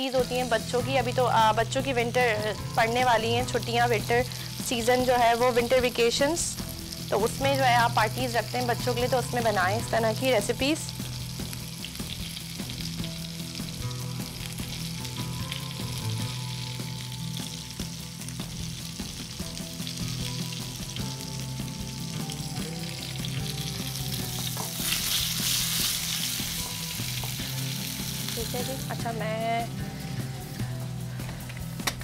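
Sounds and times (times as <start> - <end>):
meat sizzling in oil: 0.0 - 31.8.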